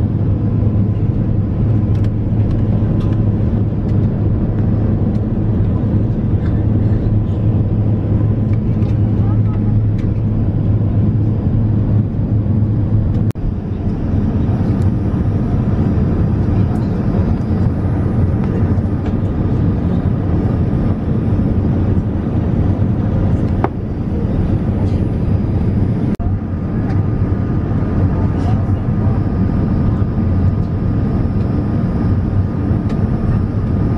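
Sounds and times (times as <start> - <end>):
jet airliner cabin noise: 0.0 - 33.9.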